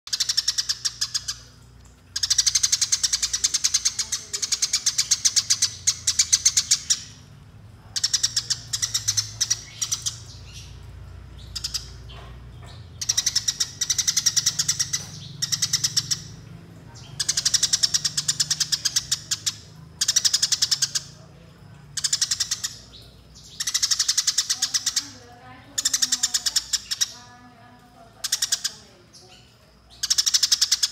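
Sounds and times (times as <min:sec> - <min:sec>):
sparrow chirping rapidly: 0:00.1 - 0:30.9.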